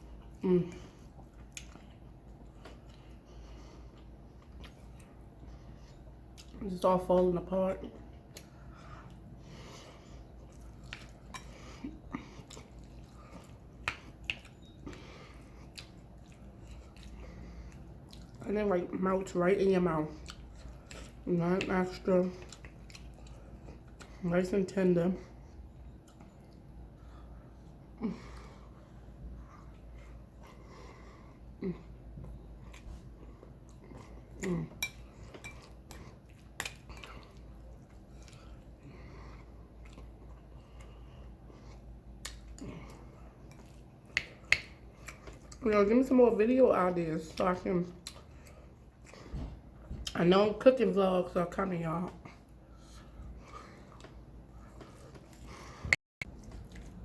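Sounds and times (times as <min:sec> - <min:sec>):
chewing and wet mouth sounds: 0:00.0 - 0:57.0.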